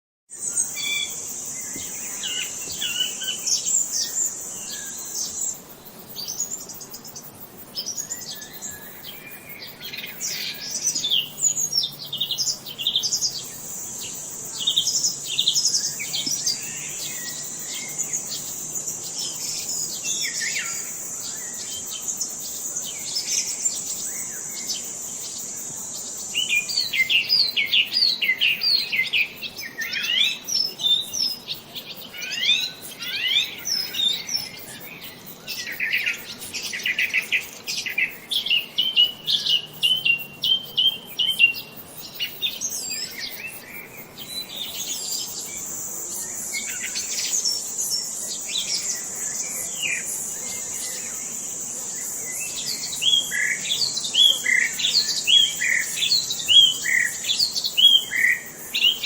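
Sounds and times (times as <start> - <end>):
songbirds chirping and singing: 0.5 - 59.0.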